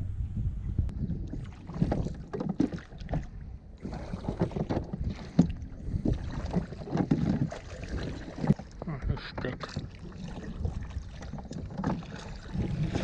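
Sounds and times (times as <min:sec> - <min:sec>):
wind on microphone: 0:00.0 - 0:08.6, 0:09.7 - 0:13.0
water splashing around boat: 0:00.9 - 0:13.0.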